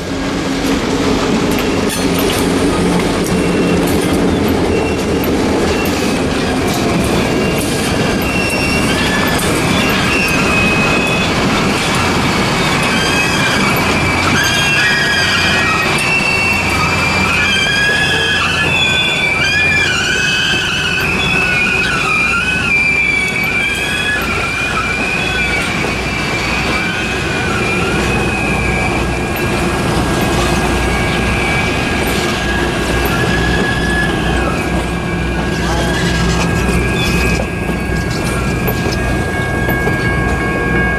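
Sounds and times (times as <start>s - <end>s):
train cars clattering: 0.0s - 40.9s
train wheels squealing on rails: 0.0s - 40.9s.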